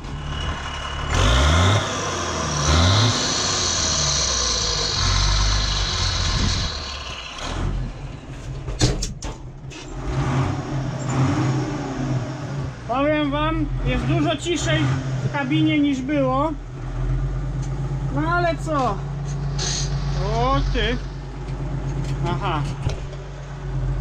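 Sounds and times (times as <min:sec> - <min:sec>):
diesel tractor engine revving: 0:00.0 - 0:24.0.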